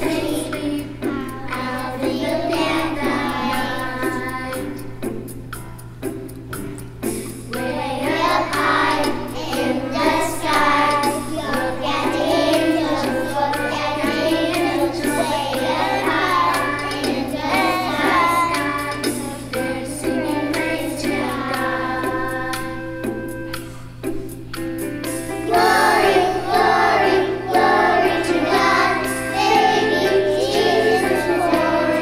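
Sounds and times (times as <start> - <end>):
children's choir singing: 0.0 - 5.0, 7.4 - 23.4, 25.4 - 32.0.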